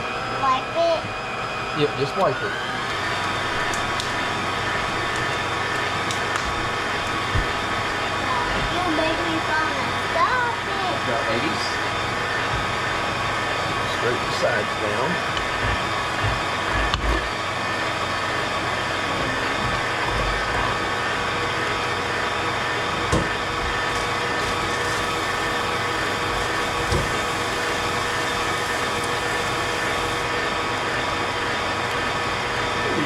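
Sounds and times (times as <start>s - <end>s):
electric mixer motor running: 0.0s - 33.0s.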